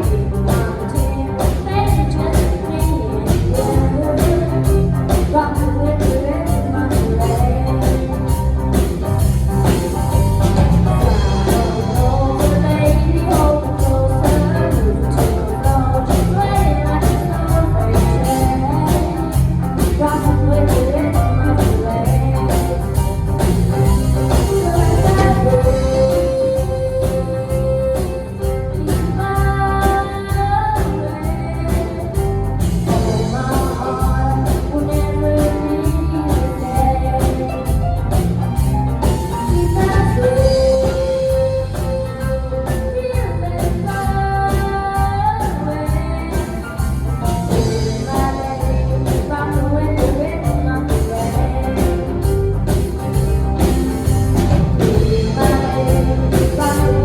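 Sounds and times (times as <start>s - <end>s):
instrumental backing with beat: 0.0s - 57.0s
person singing rock and roll: 0.0s - 57.0s.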